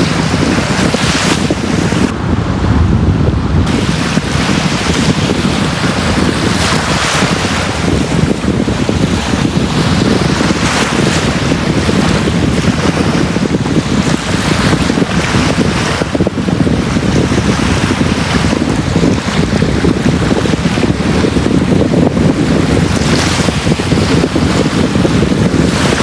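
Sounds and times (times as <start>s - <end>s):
sea waves breaking on beach: 0.0s - 2.2s, 3.6s - 26.0s
wind buffeting microphone: 0.0s - 26.0s.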